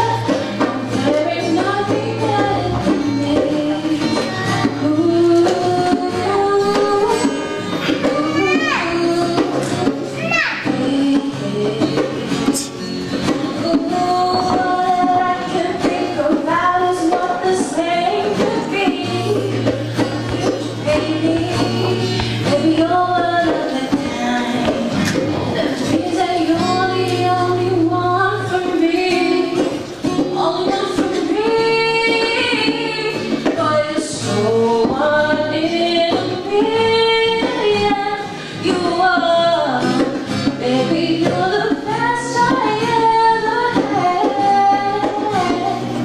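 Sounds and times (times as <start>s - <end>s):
backing music: 0.0s - 46.0s
girl singing into a microphone: 0.0s - 46.0s.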